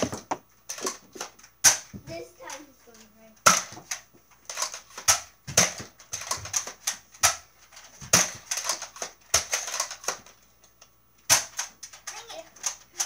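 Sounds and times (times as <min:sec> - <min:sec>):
toy blasters clicking and snapping: 0:00.1 - 0:13.0.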